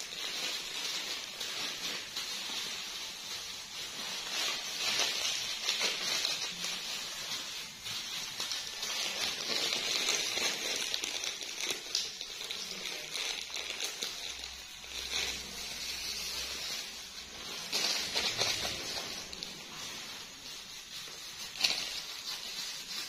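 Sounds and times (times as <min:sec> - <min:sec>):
plastic crinkling: 0:00.0 - 0:23.0.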